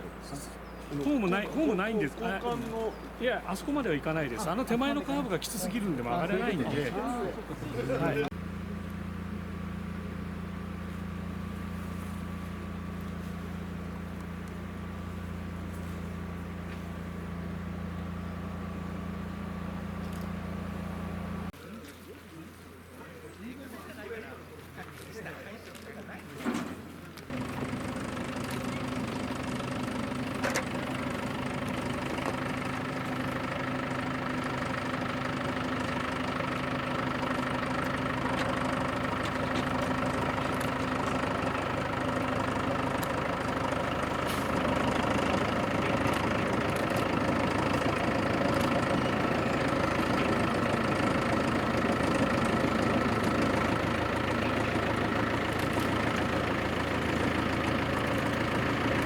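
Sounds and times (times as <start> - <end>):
diesel locomotive engine running: 0.0 - 21.6, 26.8 - 59.0.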